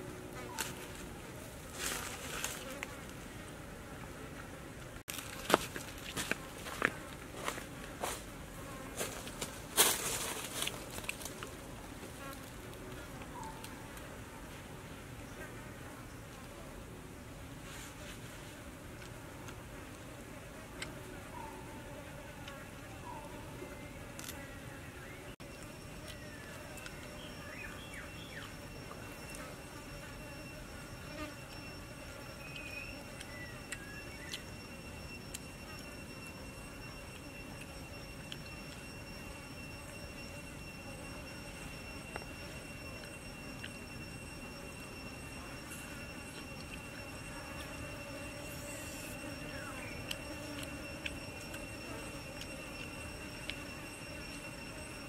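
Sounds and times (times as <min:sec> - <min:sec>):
high insect drone: 0:00.0 - 0:03.8, 0:05.0 - 0:16.4, 0:19.0 - 0:55.0.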